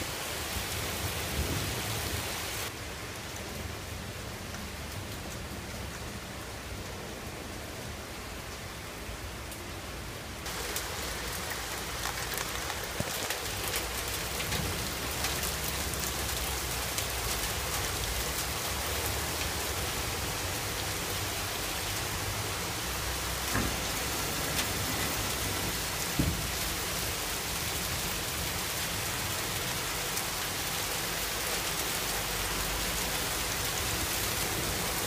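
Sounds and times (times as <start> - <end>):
heavy rain on cars and pavement: 0.0 - 35.0
raindrops ticking on hard surfaces: 2.6 - 7.0, 10.4 - 35.0.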